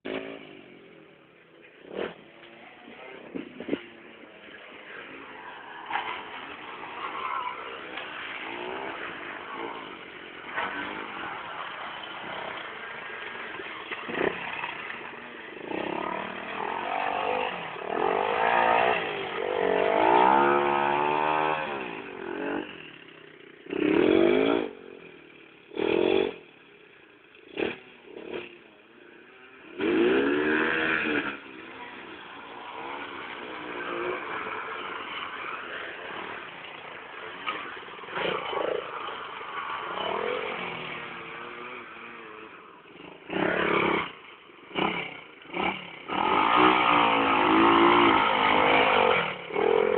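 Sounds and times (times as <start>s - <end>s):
motocross bike engines revving: 0.0s - 49.9s
motorbikes passing close by: 0.1s - 49.9s.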